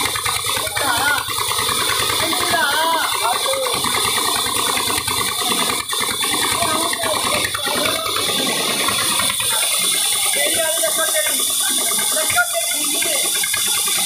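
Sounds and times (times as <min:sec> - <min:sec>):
band saw cutting a log: 0:00.0 - 0:14.0.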